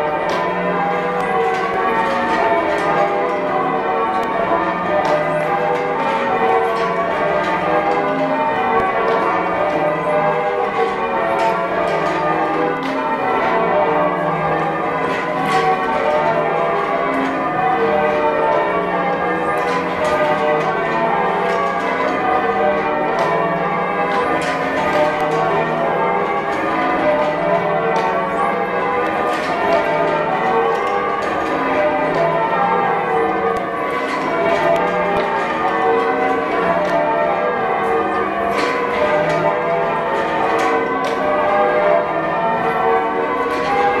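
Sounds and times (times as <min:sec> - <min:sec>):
church bells change ringing: 0:00.0 - 0:44.0.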